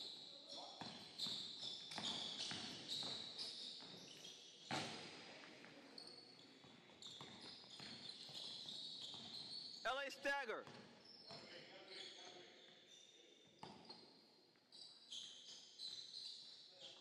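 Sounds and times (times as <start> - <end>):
sneaker squeaks: 0.0 - 4.9, 6.0 - 9.8, 10.6 - 17.0.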